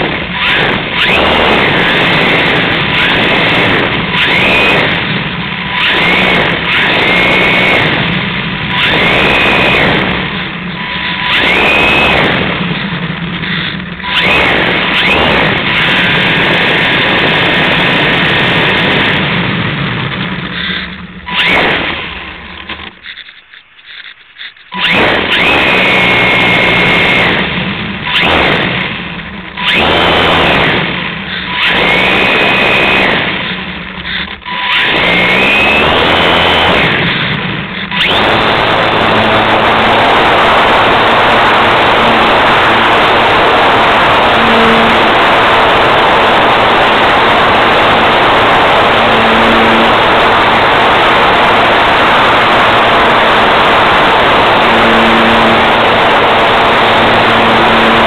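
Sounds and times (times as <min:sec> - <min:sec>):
model airplane motor and propeller: 0:00.0 - 0:58.0.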